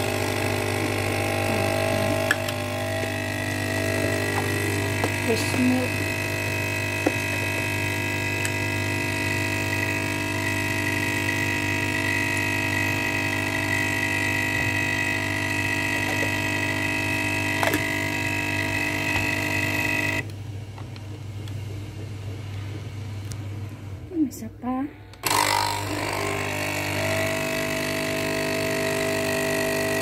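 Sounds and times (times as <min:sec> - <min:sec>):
coffee machine pump buzzing: 0:00.0 - 0:20.3, 0:25.2 - 0:30.0.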